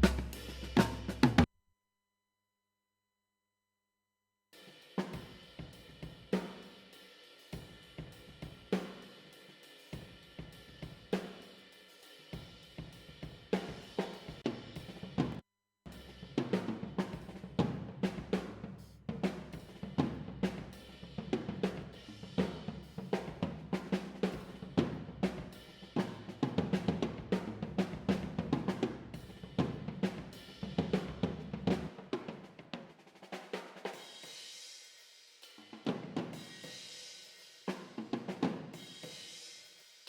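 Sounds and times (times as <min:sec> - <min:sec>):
drum kit groove: 0:00.0 - 0:01.5, 0:04.6 - 0:40.0.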